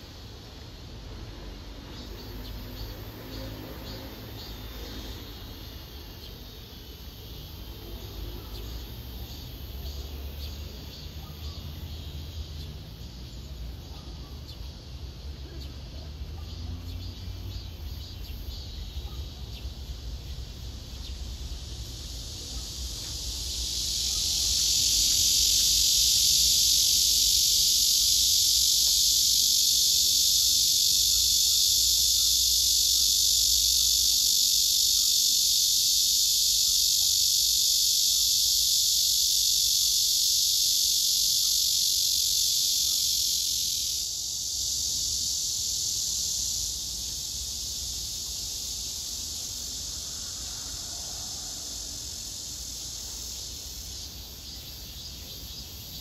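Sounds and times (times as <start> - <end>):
cicada buzzing: 1.4 - 13.6, 16.9 - 56.0.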